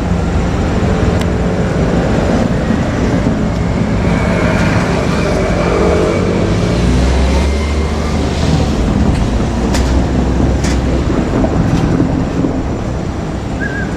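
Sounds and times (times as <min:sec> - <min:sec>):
diesel railcar humming: 0:00.0 - 0:13.9.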